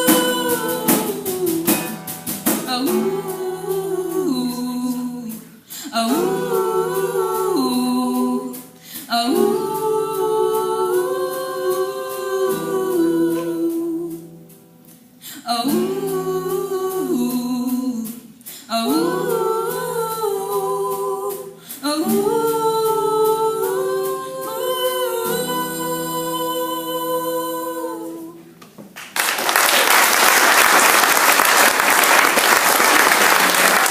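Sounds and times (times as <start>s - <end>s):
girls singing in harmony: 0.0s - 2.0s, 2.6s - 14.6s, 15.3s - 28.6s.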